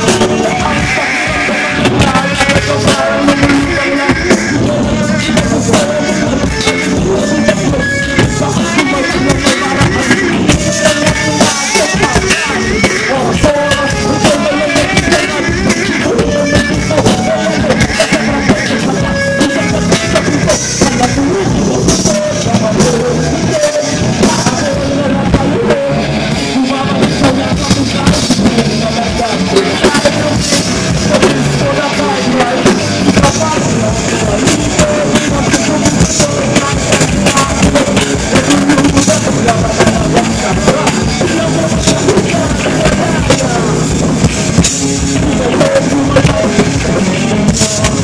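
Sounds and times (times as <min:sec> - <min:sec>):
person singing into microphone: 0:00.0 - 0:48.0
rock band playing live: 0:00.0 - 0:48.0.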